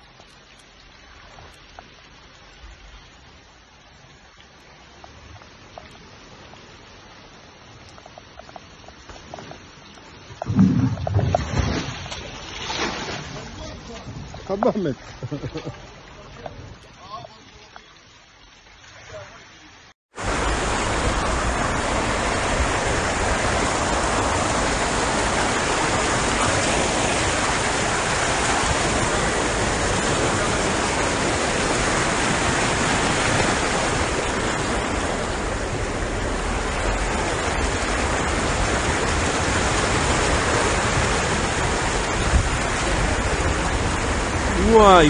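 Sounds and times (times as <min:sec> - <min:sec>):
rush of floodwater: 0:00.0 - 0:45.0.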